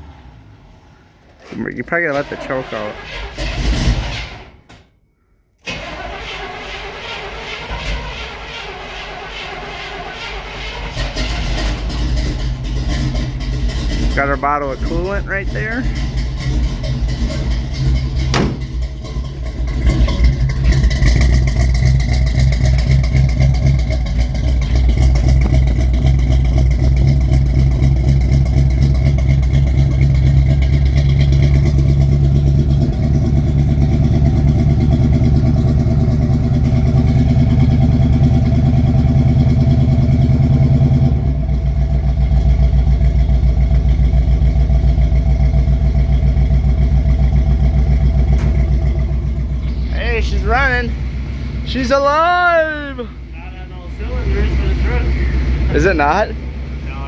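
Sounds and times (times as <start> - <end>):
engine starting and idling roughly: 0.0 - 4.9, 5.6 - 57.0.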